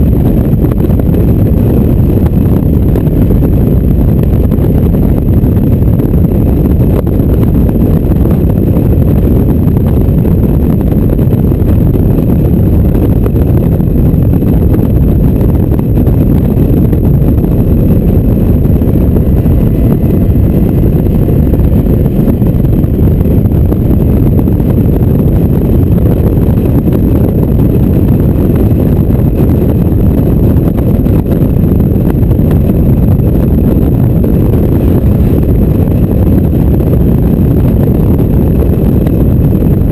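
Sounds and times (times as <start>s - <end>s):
wind buffeting on microphone: 0.0s - 39.9s.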